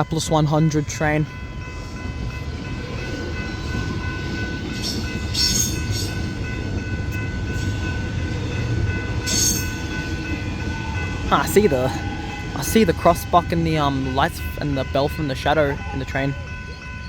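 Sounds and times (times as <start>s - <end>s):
crossing bells ringing: 0.0s - 17.0s
train wheels rumbling on rail: 0.0s - 17.0s.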